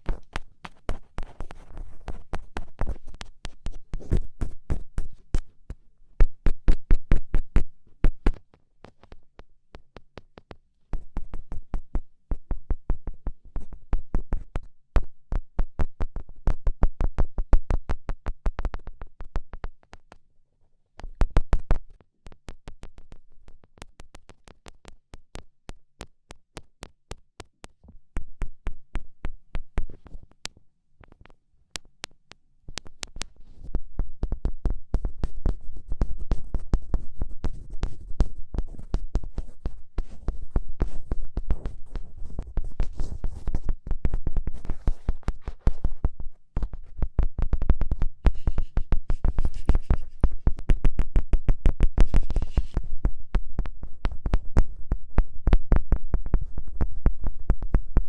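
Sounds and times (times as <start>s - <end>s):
fingertips tapping on microphone: 0.0s - 20.2s, 21.0s - 58.0s.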